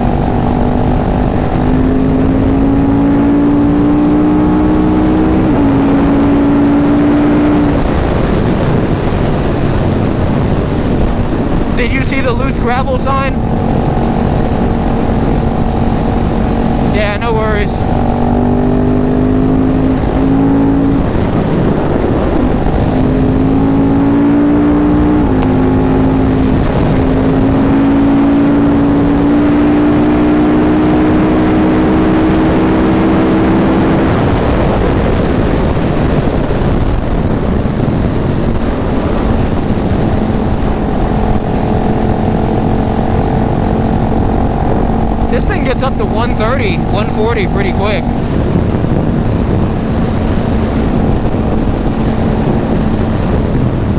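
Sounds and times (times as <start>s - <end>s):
motorcycle engine accelerating: 0.0s - 53.9s
road noise: 0.0s - 53.9s
wind rush: 0.0s - 53.9s.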